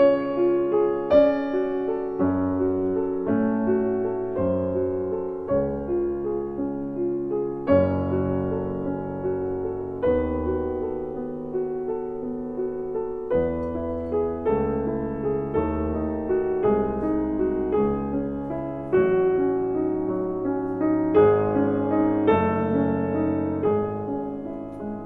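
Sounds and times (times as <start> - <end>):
gentle piano chords: 0.0 - 25.0.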